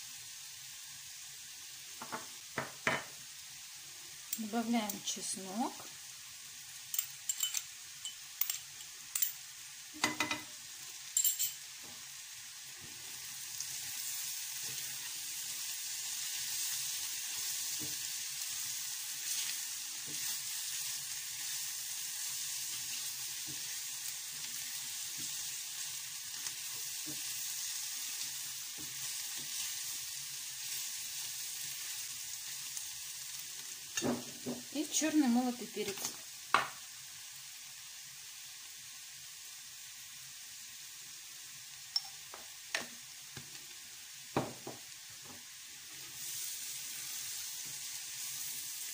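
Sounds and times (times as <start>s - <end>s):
mushrooms sizzling in frying pan: 0.0s - 48.9s.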